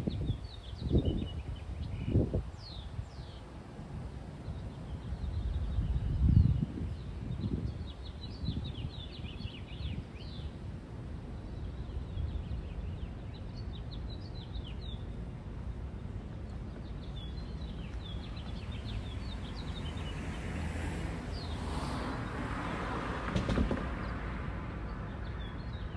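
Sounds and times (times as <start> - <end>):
small birds chirping: 0.0 - 3.6, 4.4 - 22.0, 24.8 - 25.9.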